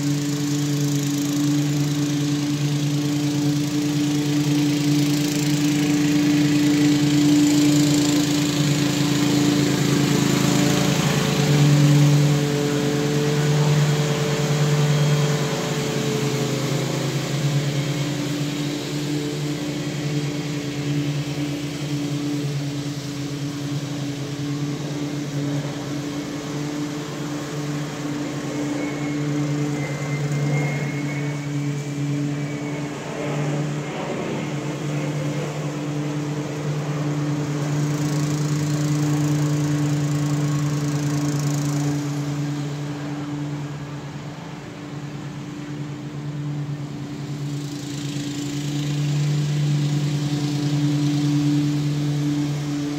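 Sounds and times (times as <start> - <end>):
single-cylinder engine running: 0.0 - 52.9.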